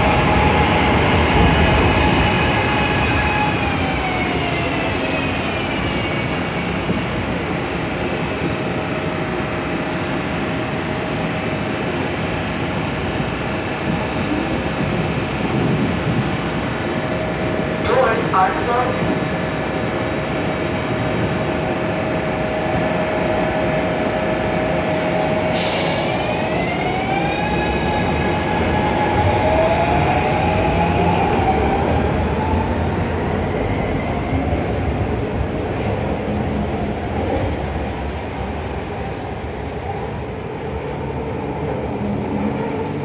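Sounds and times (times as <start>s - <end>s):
train electric propulsion whine: 0.0s - 35.9s.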